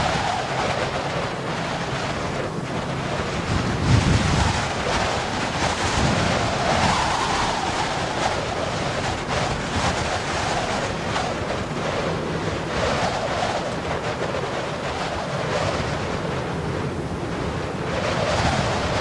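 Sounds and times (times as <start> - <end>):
wind buffeting microphone: 0.0 - 19.0
wind rushing: 0.0 - 19.0.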